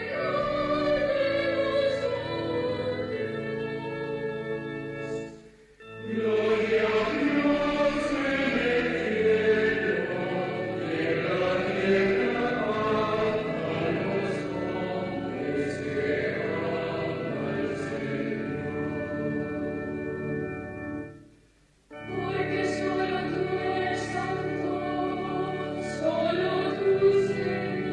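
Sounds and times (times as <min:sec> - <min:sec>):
choir chanting: 0:00.0 - 0:05.3, 0:06.0 - 0:19.3, 0:22.0 - 0:27.9.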